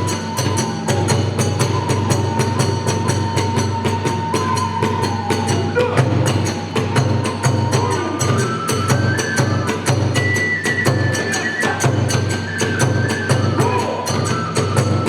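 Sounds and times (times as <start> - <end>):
bamboo flute long note: 0.0 - 15.0
drum beating: 0.0 - 15.0
hand cymbals: 0.0 - 15.0.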